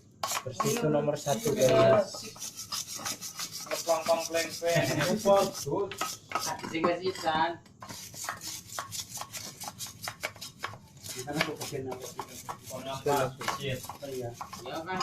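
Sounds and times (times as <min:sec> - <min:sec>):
scrubbing engine parts: 0:00.2 - 0:06.9, 0:07.8 - 0:15.0.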